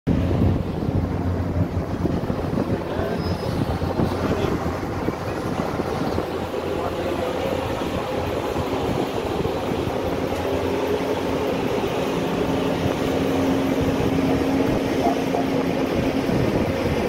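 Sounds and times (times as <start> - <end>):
ship diesel engines rumbling: 0.1 - 17.0.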